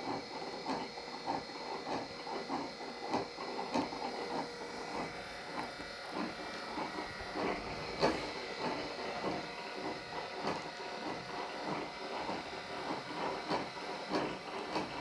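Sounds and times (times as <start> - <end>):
rotating beacon motor whine: 0.0 - 15.0.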